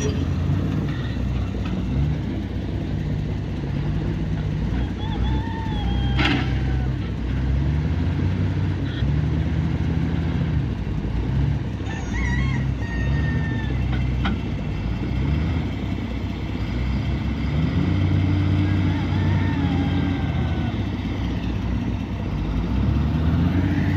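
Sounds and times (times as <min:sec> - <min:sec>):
diesel engine revving: 0:00.0 - 0:23.9.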